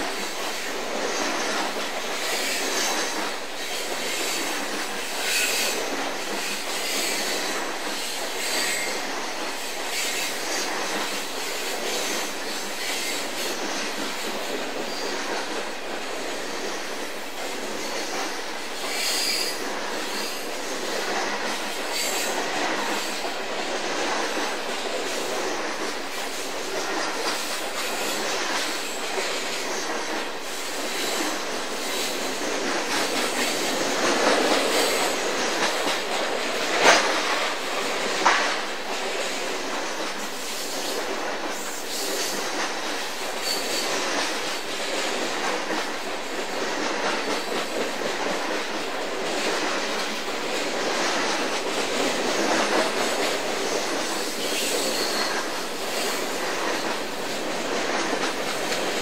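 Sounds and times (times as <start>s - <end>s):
train cars clanking: 0.0s - 59.0s
train wheels clattering on rails: 0.0s - 59.0s.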